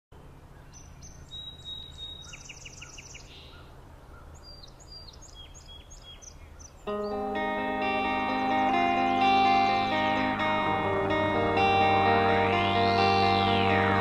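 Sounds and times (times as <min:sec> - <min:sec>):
low steady background noise: 0:00.1 - 0:14.0
songbirds singing and chirping: 0:00.3 - 0:14.0.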